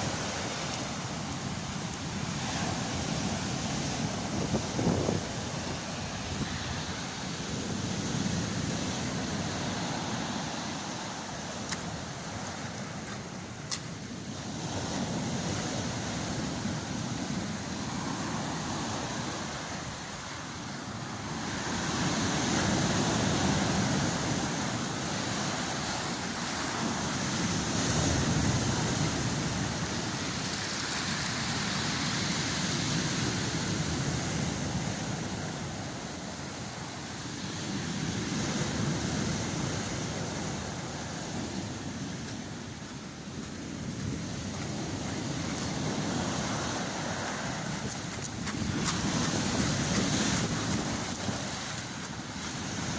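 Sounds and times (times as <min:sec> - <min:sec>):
storm surf waves breaking: 0:00.0 - 0:52.9
waves washing pebbles along shore: 0:00.0 - 0:52.9.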